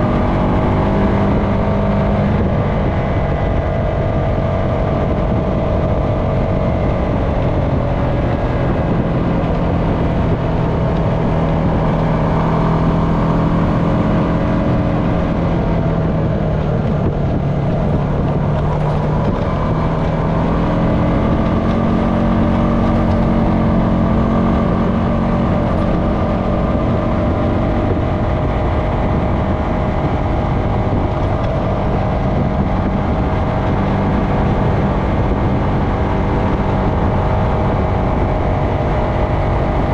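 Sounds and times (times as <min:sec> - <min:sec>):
atv engine running: 0:00.0 - 0:39.9
tyre and wind noise: 0:00.0 - 0:39.9.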